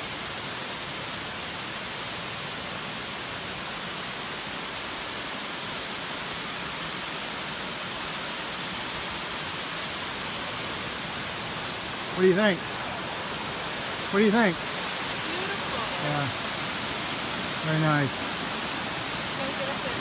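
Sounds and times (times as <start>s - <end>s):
small waterfall rushing: 0.0s - 20.0s.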